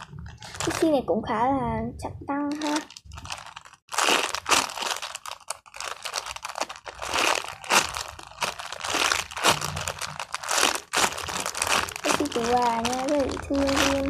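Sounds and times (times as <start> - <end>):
paper crinkling and crunching: 0.0 - 1.0, 2.5 - 14.0.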